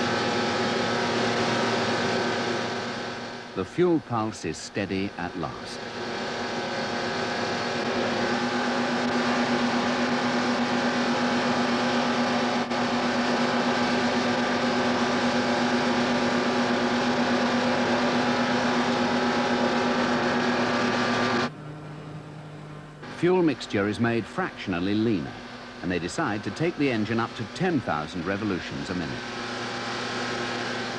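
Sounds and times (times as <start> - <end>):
racing engine running: 0.0 - 30.9.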